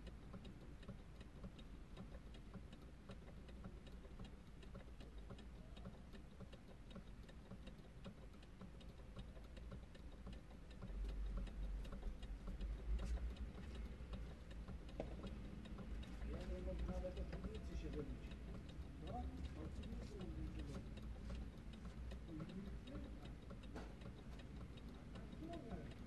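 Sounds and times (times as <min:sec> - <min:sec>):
steady light ticking: 0:00.0 - 0:26.0.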